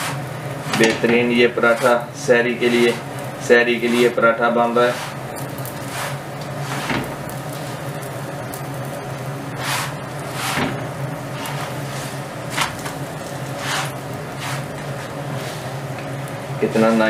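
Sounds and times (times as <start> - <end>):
spatula scraping griddle: 0.0 - 17.0
steady low hum: 0.0 - 17.0
flatbread sizzling on griddle: 1.4 - 17.0.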